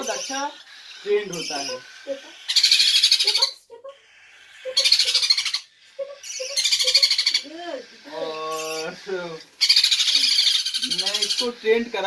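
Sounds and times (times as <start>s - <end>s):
parrot chicks raspy begging hisses: 0.0s - 12.0s.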